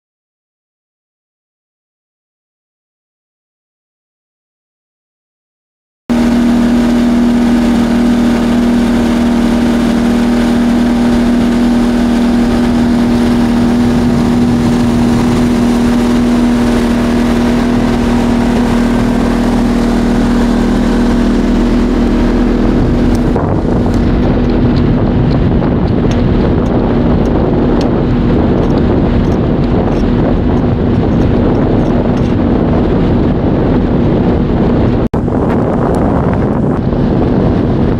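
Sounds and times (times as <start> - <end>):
motorboat engine droning: 6.1 - 37.9
rushing water: 6.1 - 37.9
wind noise: 6.1 - 37.9.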